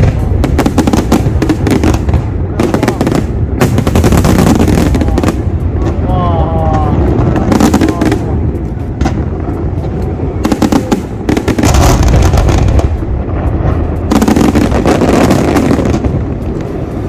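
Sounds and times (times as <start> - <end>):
continuous low rumble: 0.0 - 17.0
fireworks booming and crackling: 0.0 - 17.0.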